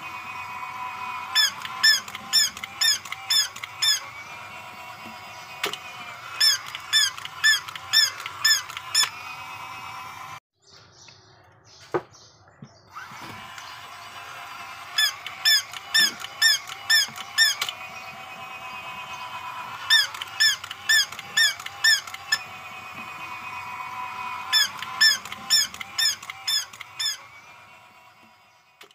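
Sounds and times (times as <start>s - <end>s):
electronic yapping calls: 0.0s - 9.8s, 12.9s - 28.2s
toy gear motor whirring: 0.0s - 10.4s, 12.9s - 28.9s.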